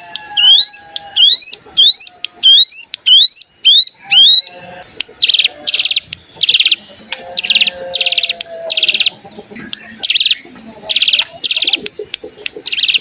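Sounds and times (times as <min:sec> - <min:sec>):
bird buzzy trill: 0:00.0 - 0:13.0.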